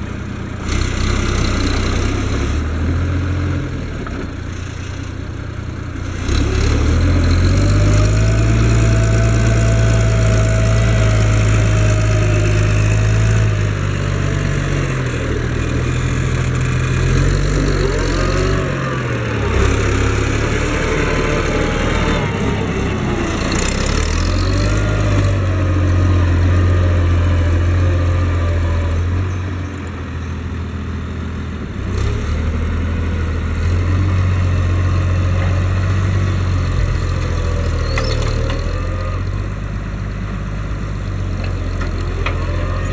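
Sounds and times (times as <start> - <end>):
tractor diesel engine under load: 0.0 - 42.9.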